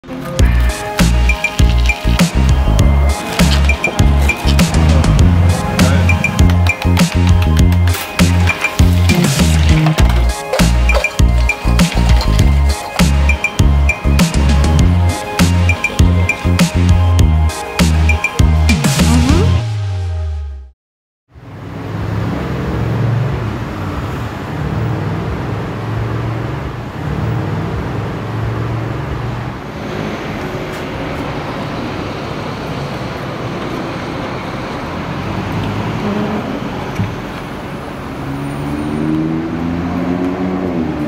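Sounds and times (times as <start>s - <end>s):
street traffic rumble: 0.0s - 19.7s, 21.3s - 41.0s.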